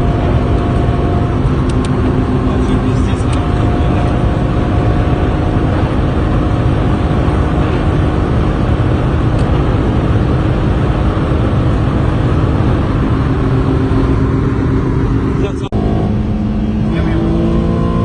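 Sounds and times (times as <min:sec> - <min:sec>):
car engine hum: 0:00.0 - 0:18.0
loud road noise: 0:00.0 - 0:18.0.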